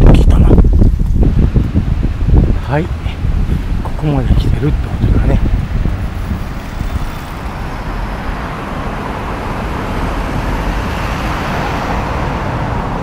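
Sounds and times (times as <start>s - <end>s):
road traffic hiss: 0.4s - 13.0s.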